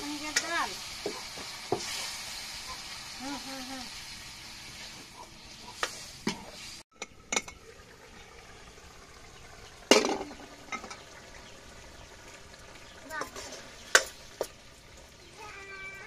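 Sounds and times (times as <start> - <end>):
gravy sizzling in a pan: 0.0 - 16.0.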